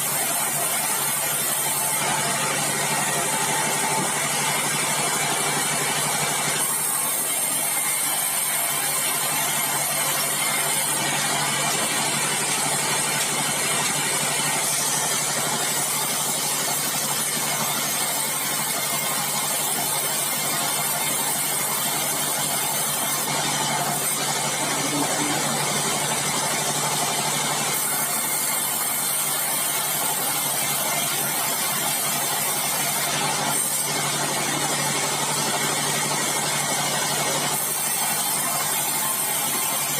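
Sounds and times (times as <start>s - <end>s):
bandsaw machinery running: 0.0s - 39.9s.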